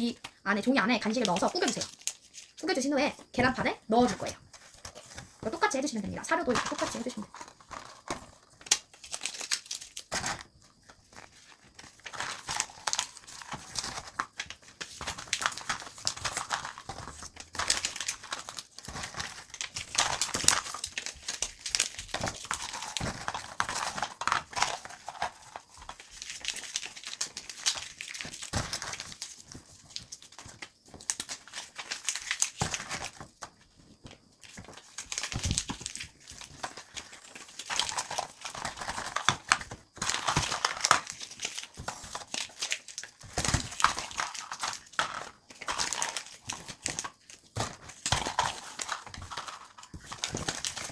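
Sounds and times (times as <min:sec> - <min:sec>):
paper being crumpled: 0:01.0 - 0:02.6, 0:06.4 - 0:33.3, 0:34.4 - 0:50.9.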